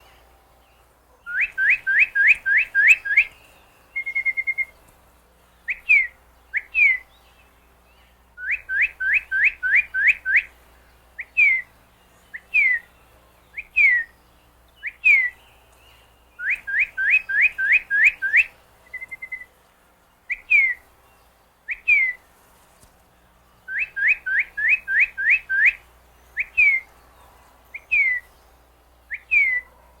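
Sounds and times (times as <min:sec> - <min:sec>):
bird singing whistled notes: 0:00.6 - 0:04.8, 0:05.6 - 0:10.6, 0:11.2 - 0:19.5, 0:20.3 - 0:22.2, 0:23.6 - 0:26.9, 0:27.7 - 0:29.8.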